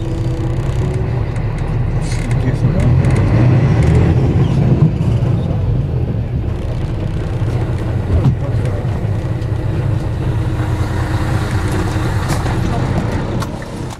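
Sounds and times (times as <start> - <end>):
coach engine rumbling: 0.0 - 13.9.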